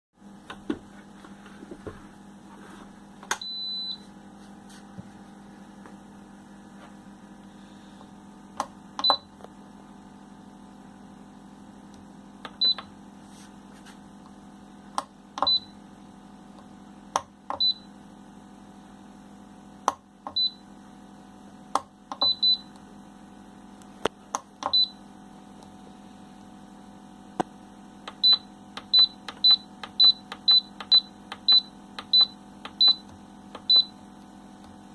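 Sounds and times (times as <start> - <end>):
steady low hum: 0.2 - 34.9.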